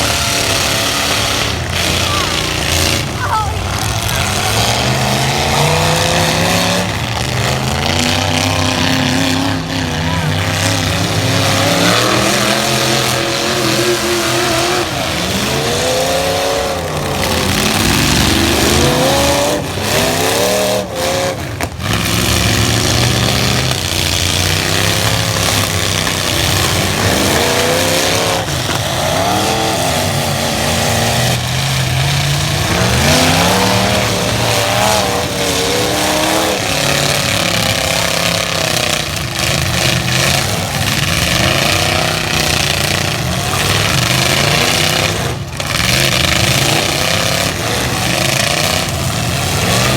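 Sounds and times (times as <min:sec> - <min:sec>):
noisy din: 0:00.0 - 0:49.9
truck engines revving: 0:00.0 - 0:49.9.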